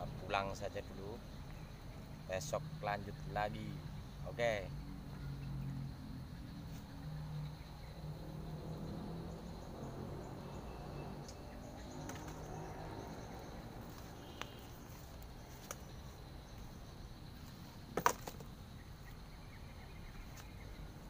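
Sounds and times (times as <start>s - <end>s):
faint high chirping calls: 0.0s - 17.8s, 18.6s - 21.0s
high insect drone: 0.0s - 21.0s.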